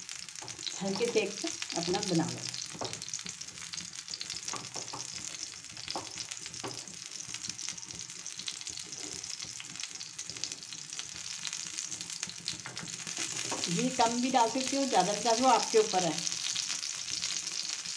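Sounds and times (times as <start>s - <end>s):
batter sizzling in oil: 0.0s - 17.9s.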